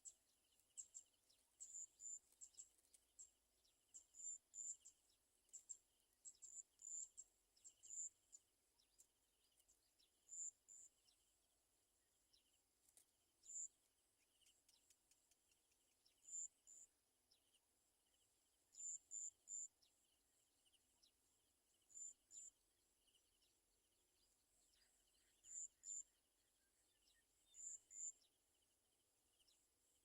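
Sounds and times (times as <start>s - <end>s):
faint bird twitter: 0.0s - 11.4s, 13.4s - 29.7s.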